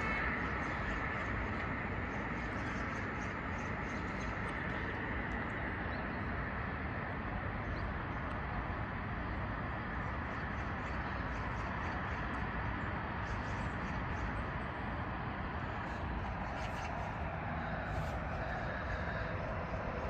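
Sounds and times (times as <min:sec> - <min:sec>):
distant city traffic: 0:00.0 - 0:20.0.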